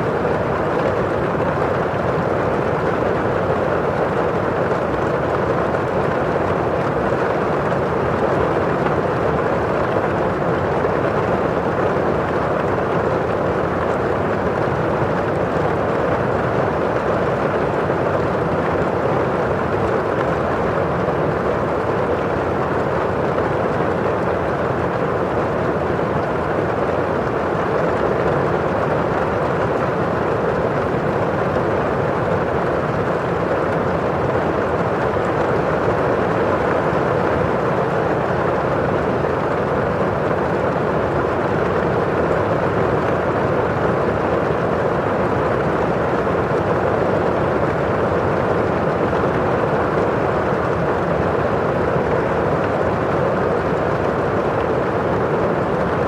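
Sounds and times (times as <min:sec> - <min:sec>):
rain on a window: 0:00.0 - 0:56.0
rush of rain outside: 0:00.0 - 0:56.0.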